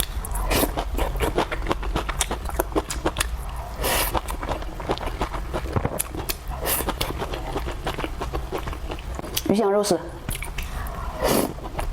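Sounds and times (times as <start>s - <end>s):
person chewing and crunching food: 0.0s - 9.5s, 10.2s - 11.9s.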